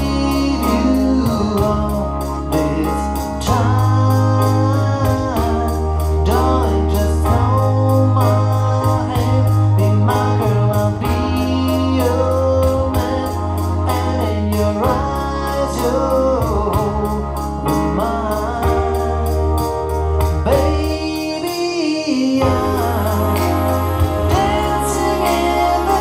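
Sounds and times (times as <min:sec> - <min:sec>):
long-held bass notes: 0:00.0 - 0:26.0
slow song with singing voice: 0:00.0 - 0:26.0.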